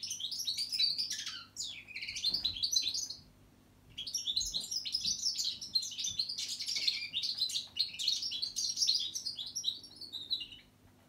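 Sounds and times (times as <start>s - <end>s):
bird twittering and trilling: 0.0s - 3.3s, 3.9s - 10.7s.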